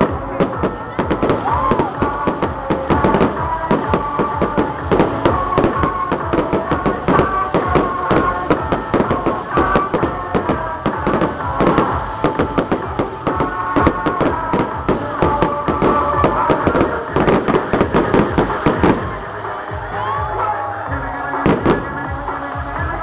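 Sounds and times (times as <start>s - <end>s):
firecrackers crackling and popping: 0.0s - 23.0s
music playing: 0.0s - 23.0s.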